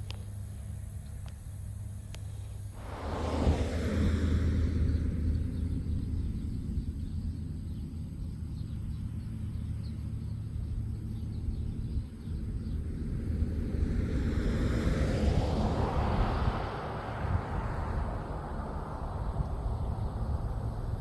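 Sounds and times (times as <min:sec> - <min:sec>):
road traffic rumble: 0:00.0 - 0:21.0
car passing: 0:01.9 - 0:11.1, 0:12.1 - 0:21.0.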